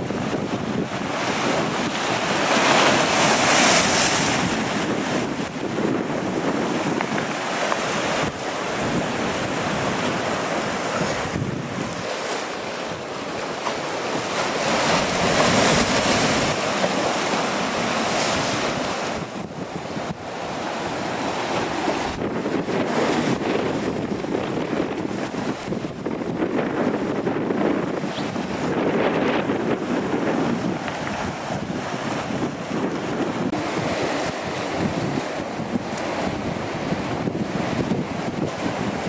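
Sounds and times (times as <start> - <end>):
ocean surf rushing: 0.0 - 39.0
wind buffeting microphone: 0.0 - 39.0.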